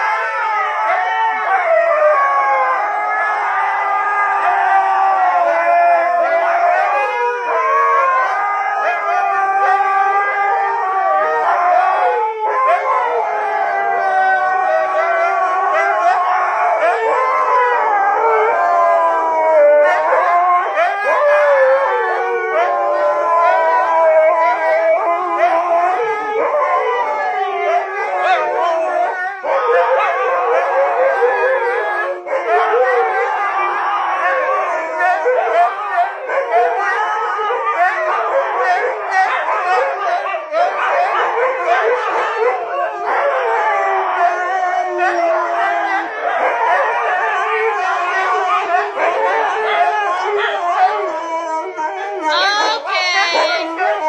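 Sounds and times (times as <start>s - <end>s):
huskies howling in chorus: 0.0s - 54.0s.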